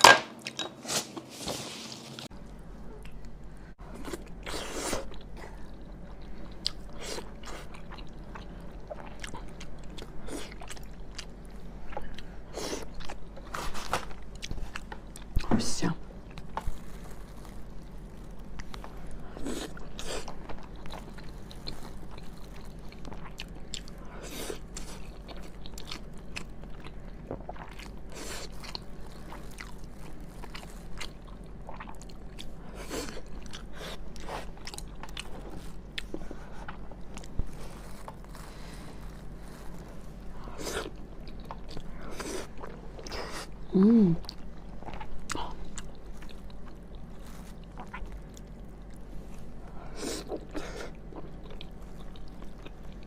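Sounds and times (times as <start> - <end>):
faint steady hum: 0.0 - 53.0
person chewing food: 2.1 - 15.4, 16.2 - 53.0.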